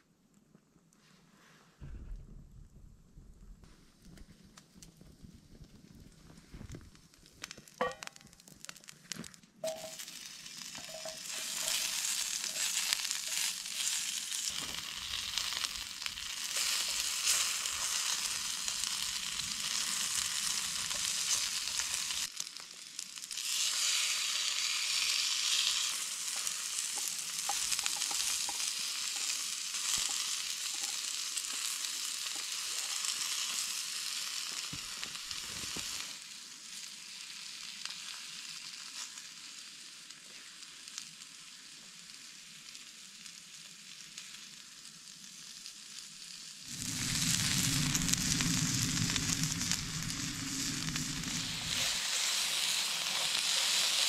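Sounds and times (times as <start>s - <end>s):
food sizzling in hot oil: 7.6s - 8.9s, 9.6s - 54.0s.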